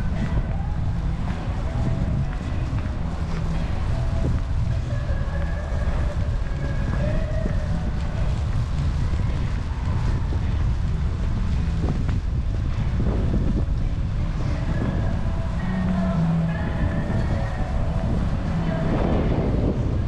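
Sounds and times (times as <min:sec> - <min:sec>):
faint street tones: 0:00.0 - 0:20.0
wind buffeting microphone: 0:00.0 - 0:20.0.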